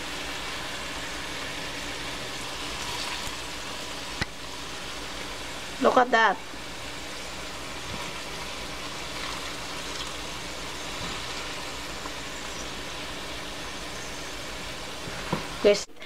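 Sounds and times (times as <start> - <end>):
even hiss: 0.0 - 16.0
steady machine hum: 0.0 - 16.0.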